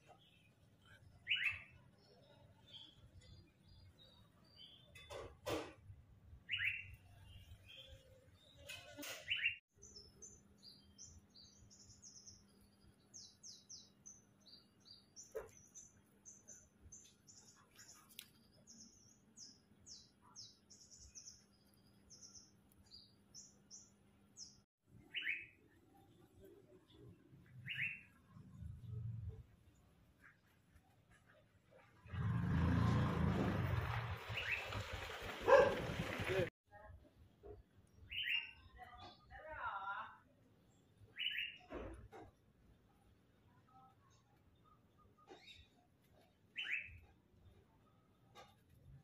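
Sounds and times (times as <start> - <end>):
birdsong chirps: 0.0 - 33.1, 34.2 - 49.0.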